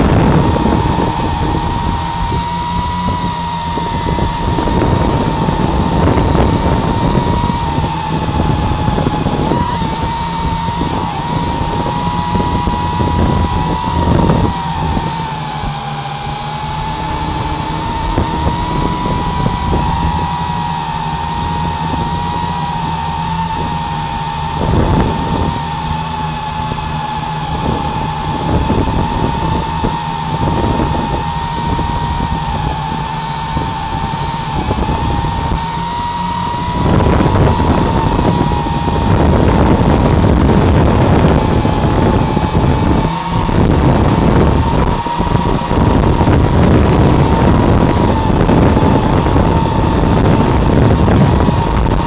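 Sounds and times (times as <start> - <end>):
drone propellers whining: 0.0 - 52.0
wind rushing over microphone: 0.0 - 52.0.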